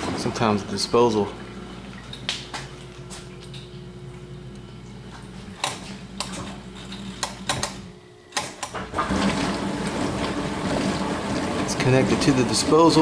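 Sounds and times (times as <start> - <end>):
garbage disposal churning: 0.0 - 8.0, 8.7 - 13.0.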